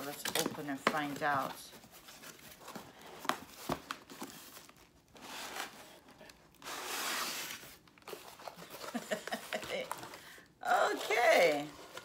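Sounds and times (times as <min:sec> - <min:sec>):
cardboard tearing and rustling: 0:00.0 - 0:10.0.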